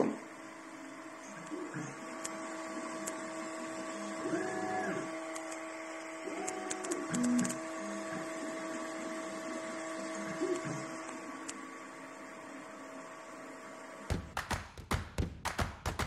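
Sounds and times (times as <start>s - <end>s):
stepper motor whines: 0.0s - 14.3s
three d printer humming: 0.0s - 14.4s.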